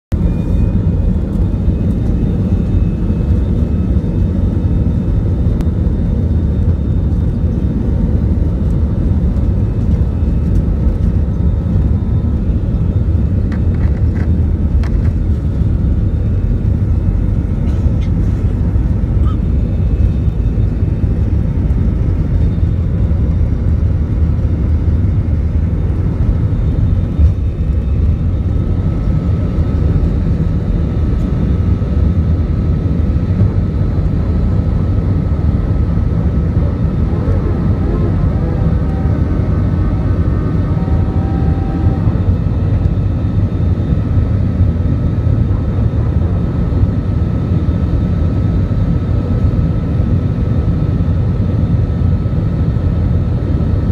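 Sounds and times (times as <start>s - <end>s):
low rumble of jet engines: 0.1s - 53.9s.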